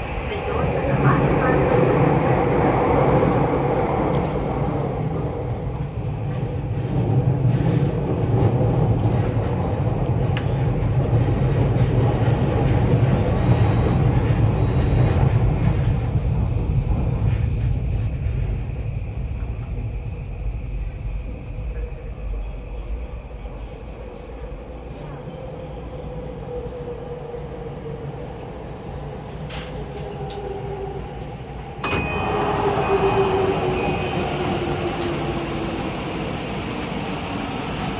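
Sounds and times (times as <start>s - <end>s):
train wheels rumbling: 0.0s - 25.3s, 28.8s - 37.9s.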